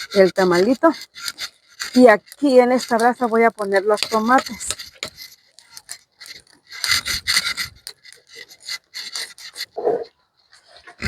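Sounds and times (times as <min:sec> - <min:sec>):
embers scraped across hearth: 0:00.0 - 0:11.0.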